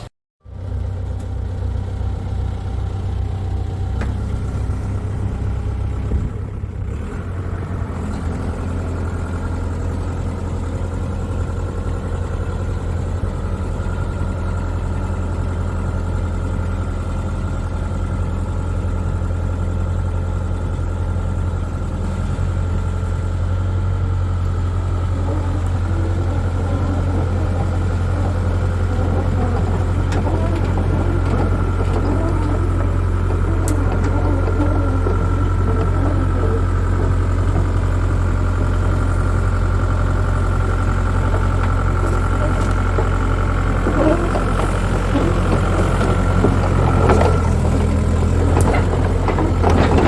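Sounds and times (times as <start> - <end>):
diesel truck engine humming: 0.0 - 50.0.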